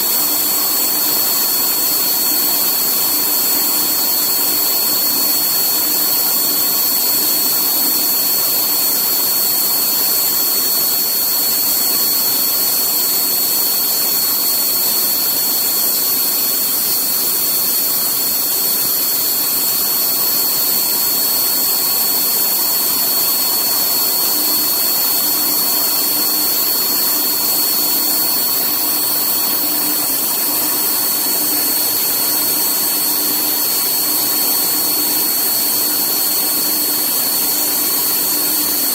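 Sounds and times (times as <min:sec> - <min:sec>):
milling machine high whine: 0:00.0 - 0:38.9.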